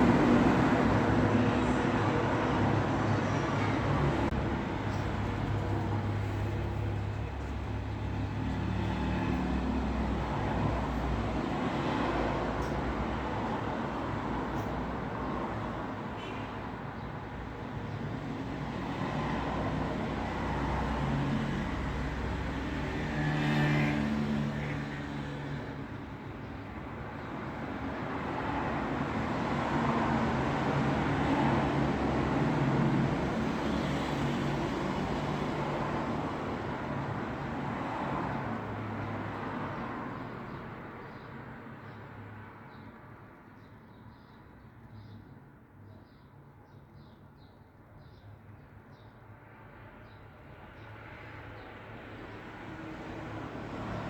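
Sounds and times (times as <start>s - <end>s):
cars passing: 0.0s - 43.4s, 49.5s - 54.0s.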